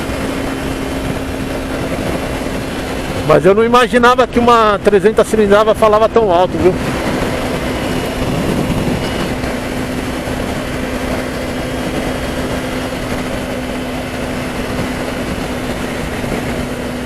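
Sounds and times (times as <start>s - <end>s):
constant rushing noise: 0.0s - 17.0s
motorcycle engine running: 0.0s - 17.0s.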